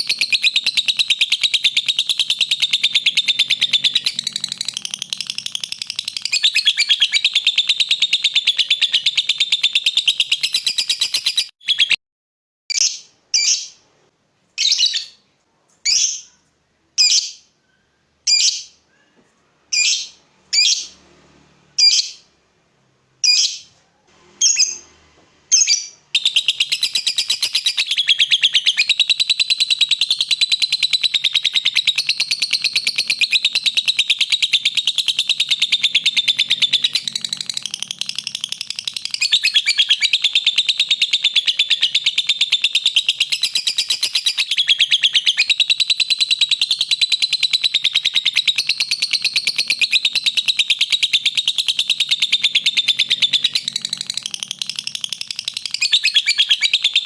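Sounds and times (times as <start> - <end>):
lovebird chattering trill: 0.0 - 11.9, 12.7 - 13.8, 14.6 - 15.2, 15.9 - 16.4, 17.0 - 17.5, 18.3 - 18.8, 19.7 - 21.0, 21.8 - 22.3, 23.2 - 23.7, 24.4 - 24.8, 25.5 - 57.0
sharp bird chirps: 0.0 - 12.0, 12.7 - 13.8, 14.6 - 15.2, 15.9 - 18.9, 19.7 - 21.0, 21.8 - 22.3, 23.2 - 23.8, 24.4 - 24.9, 25.5 - 57.0.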